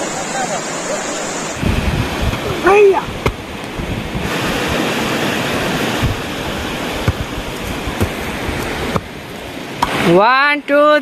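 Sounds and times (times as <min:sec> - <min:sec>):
river water rushing: 0:00.0 - 0:10.9.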